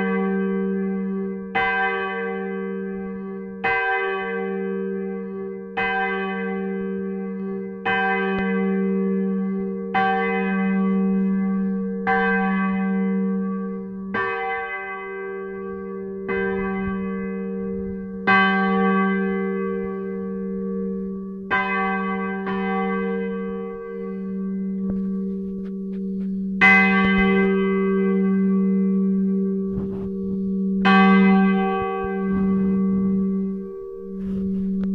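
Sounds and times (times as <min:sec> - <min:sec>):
church bell ringing: 0:00.0 - 0:34.9.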